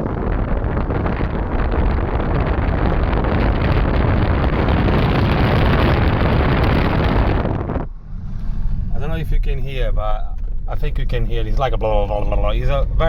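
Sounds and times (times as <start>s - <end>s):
wind buffeting on microphone: 0.0s - 11.6s.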